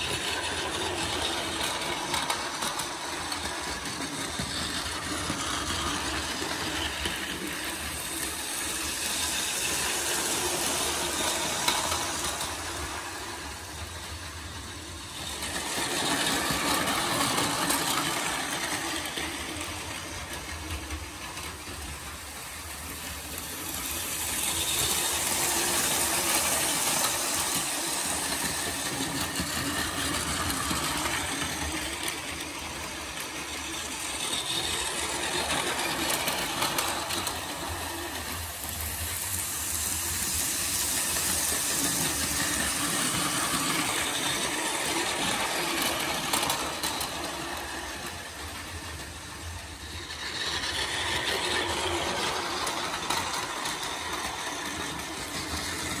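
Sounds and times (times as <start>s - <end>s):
toy train motor whirring: 0.0s - 56.0s.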